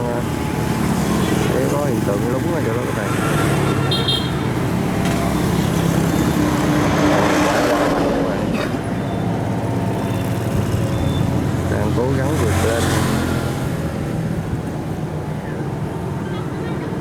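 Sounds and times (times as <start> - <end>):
heavy engine running: 0.0 - 15.4.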